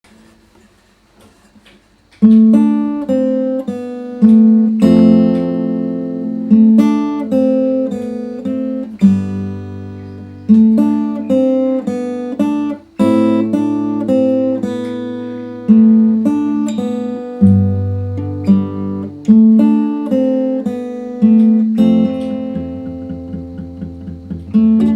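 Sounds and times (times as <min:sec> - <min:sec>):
fingerstyle acoustic guitar: 0:02.2 - 0:24.9.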